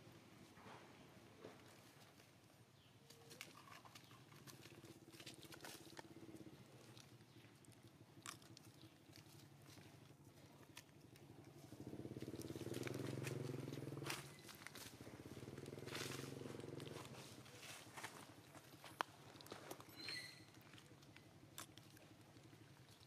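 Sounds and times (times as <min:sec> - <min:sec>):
low engine hum: 0:03.8 - 0:23.0.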